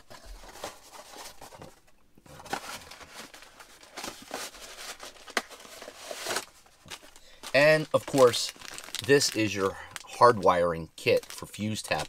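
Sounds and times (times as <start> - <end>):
cardboard and plastic rustling: 0.0 - 9.8.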